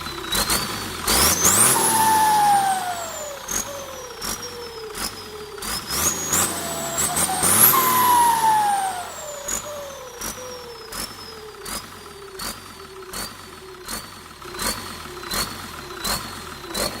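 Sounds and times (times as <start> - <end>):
diesel engine: 0.0 - 17.0
turbocharger whine: 0.0 - 17.0.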